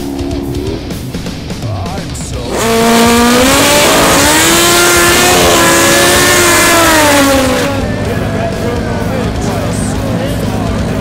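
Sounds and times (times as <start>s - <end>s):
motorcycle engine at full throttle: 0.0s - 11.0s.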